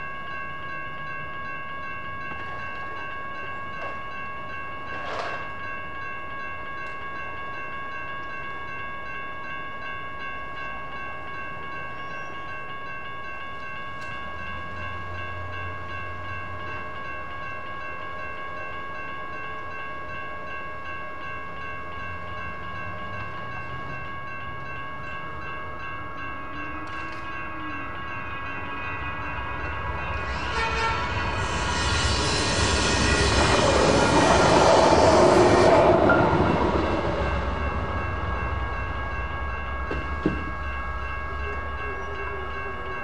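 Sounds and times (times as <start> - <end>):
railroad crossing bells ringing: 0.0 - 43.0
train approaching: 0.0 - 43.0.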